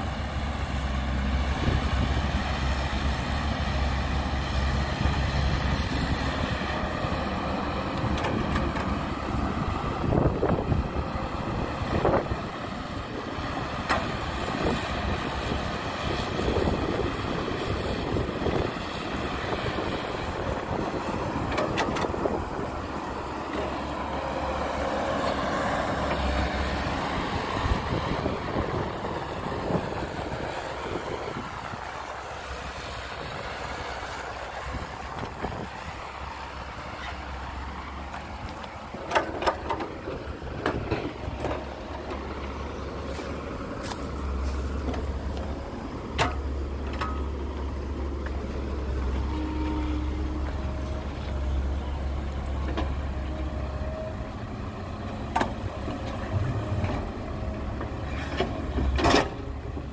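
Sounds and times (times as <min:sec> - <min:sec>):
excavator diesel engine under load: 0:00.0 - 0:59.9.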